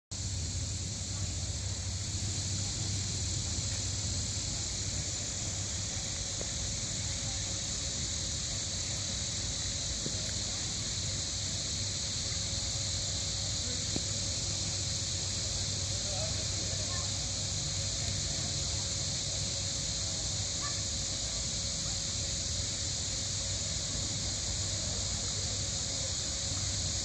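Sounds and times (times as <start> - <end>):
high hiss: 0.1 - 27.0.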